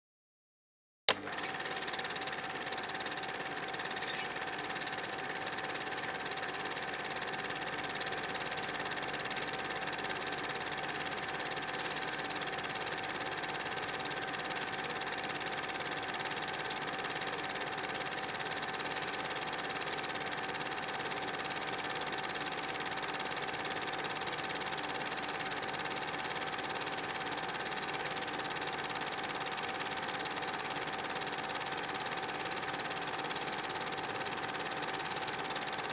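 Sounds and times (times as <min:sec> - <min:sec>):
film projector whirring: 0:01.1 - 0:35.9.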